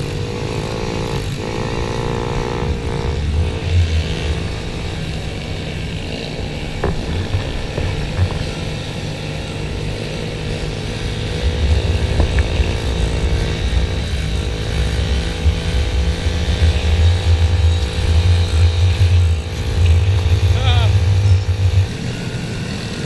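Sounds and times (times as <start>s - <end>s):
small motorbike engines running: 0.0s - 23.0s.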